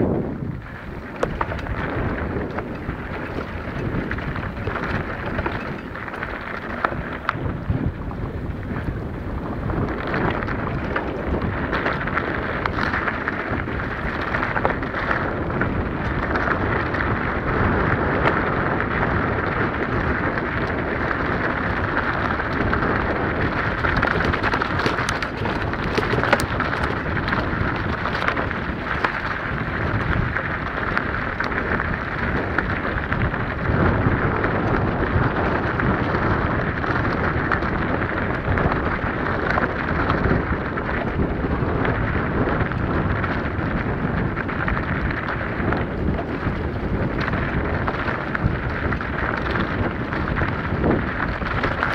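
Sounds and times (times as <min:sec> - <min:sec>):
bike rattles and knocks: 0:00.0 - 0:51.9
bike tyres crunching on gravel: 0:00.0 - 0:51.9.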